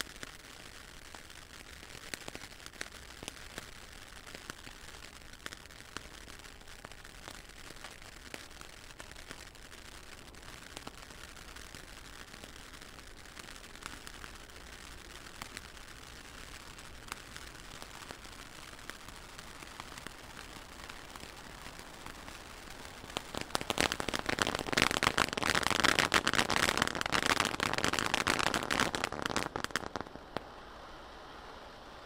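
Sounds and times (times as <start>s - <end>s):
firework crackling: 0.0s - 32.0s
firework fountain hissing: 0.0s - 32.0s.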